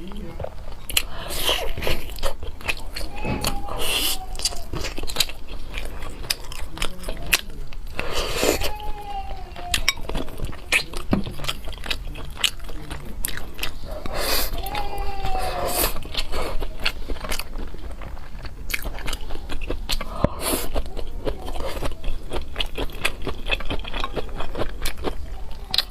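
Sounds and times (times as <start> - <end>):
person chewing and crunching: 0.0 - 25.9.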